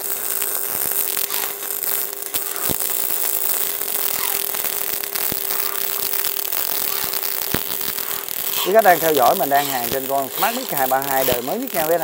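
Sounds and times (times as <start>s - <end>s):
steady hum: 0.0s - 12.0s
welding arc crackling: 0.0s - 12.0s
sharp ticks: 0.7s - 12.0s.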